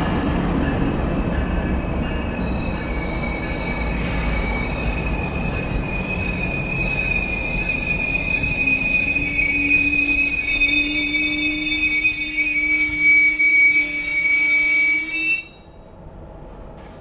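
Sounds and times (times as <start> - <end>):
train brakes squealing: 0.0 - 15.8.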